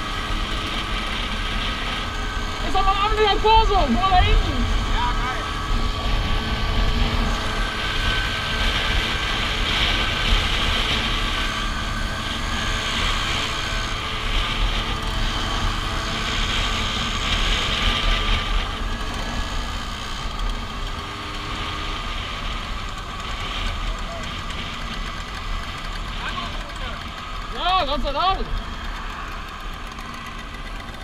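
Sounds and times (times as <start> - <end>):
scooter engines droning: 0.0 - 31.0.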